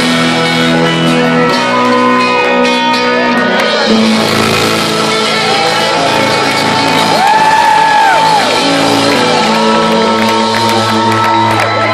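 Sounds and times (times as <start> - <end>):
drums: 0.0 - 11.9
ringing electric guitars: 0.0 - 11.9
crowd shouting and whooping: 1.1 - 11.9.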